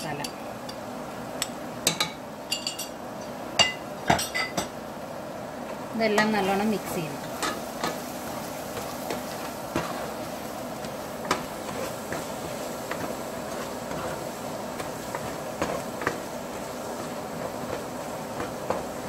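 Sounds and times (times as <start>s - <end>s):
spices sizzling: 0.0s - 19.0s.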